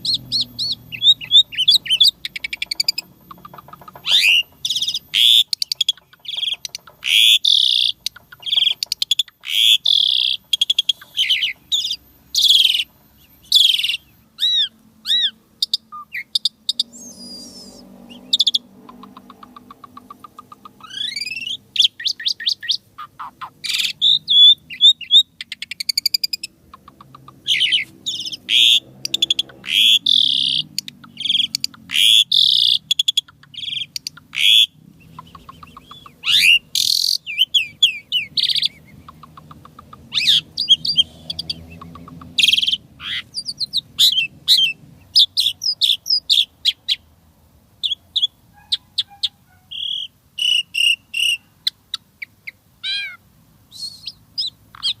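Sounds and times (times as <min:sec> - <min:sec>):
starling singing: 0:00.0 - 0:47.1, 0:47.8 - 0:55.0.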